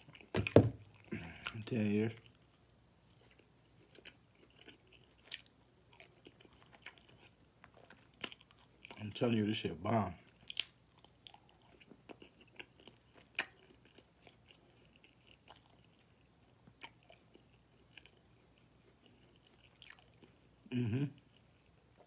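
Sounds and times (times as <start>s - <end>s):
person chewing food: 0.0s - 9.0s, 10.2s - 22.0s.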